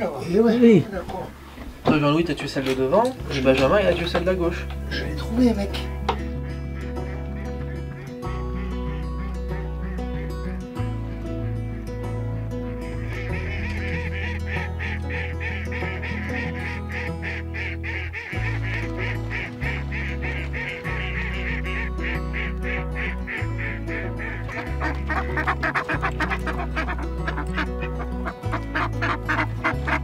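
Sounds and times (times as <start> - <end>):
background music with bass notes: 0.0 - 30.0
ducks quacking: 0.0 - 30.0.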